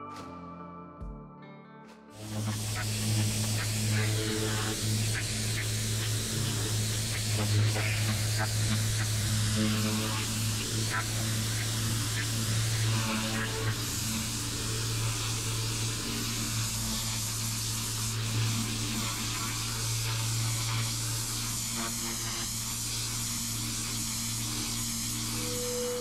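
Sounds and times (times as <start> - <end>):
low motor hum: 2.2 - 26.0
pressure washer jet hissing: 2.2 - 26.0.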